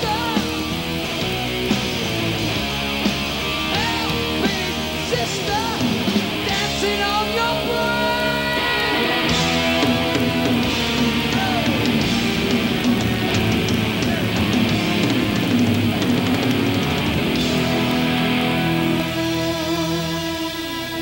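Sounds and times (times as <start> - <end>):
heavy metal band playing live: 0.0 - 21.0.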